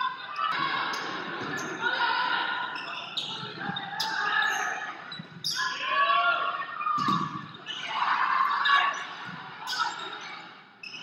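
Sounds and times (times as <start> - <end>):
spectators shouting and cheering: 0.0 - 10.7.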